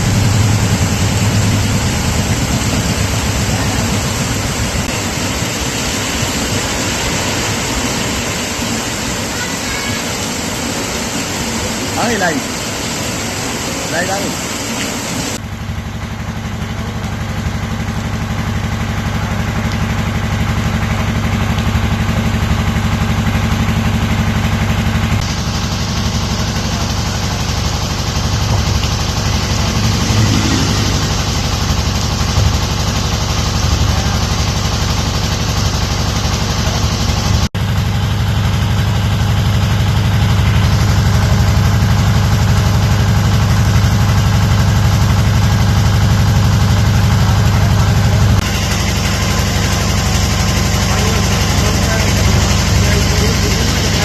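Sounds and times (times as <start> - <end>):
vehicle engine idling: 0.0 - 14.5, 15.4 - 54.0.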